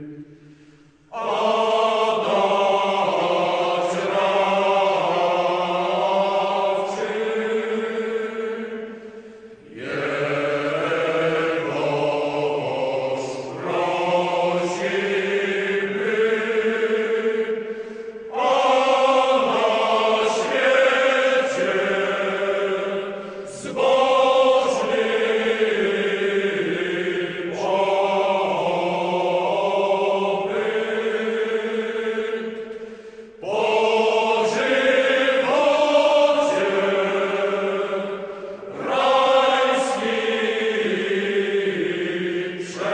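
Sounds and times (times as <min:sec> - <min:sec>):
choir chanting long notes: 0:00.0 - 0:42.9.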